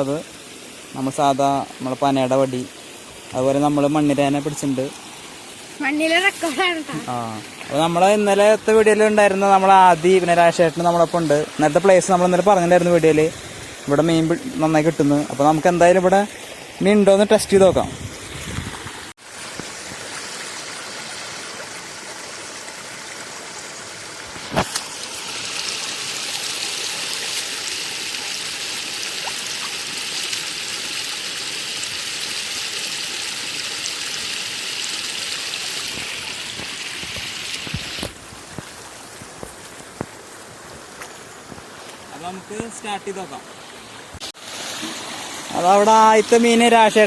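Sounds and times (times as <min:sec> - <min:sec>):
water rushing and trickling: 0:00.0 - 0:47.0.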